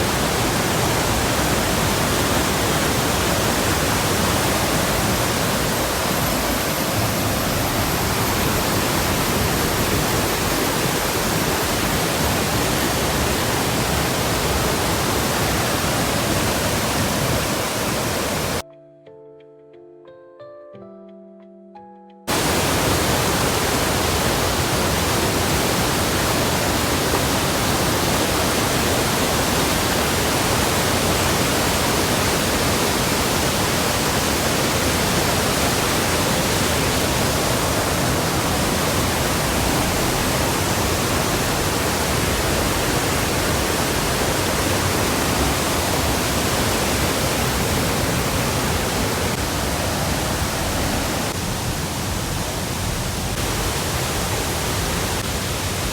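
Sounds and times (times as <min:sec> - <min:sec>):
large waterfall rushing: 0:00.0 - 0:18.6, 0:22.3 - 0:55.9.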